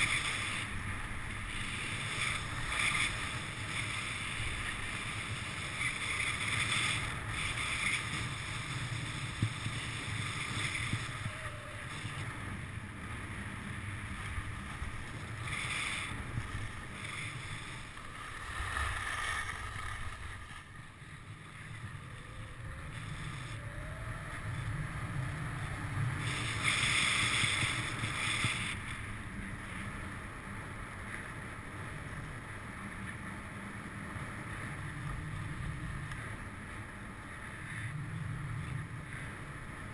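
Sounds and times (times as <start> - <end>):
skis scraping over snow: 0.0 - 39.9
wind rumbling on microphone: 0.0 - 39.9.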